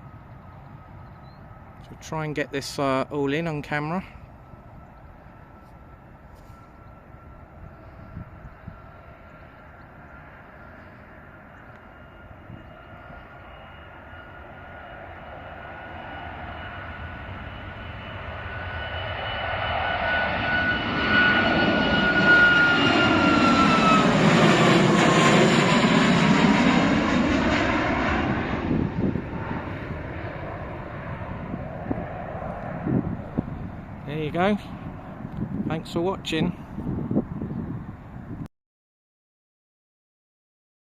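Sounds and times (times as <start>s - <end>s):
jet airliner passing by: 0.0s - 38.5s.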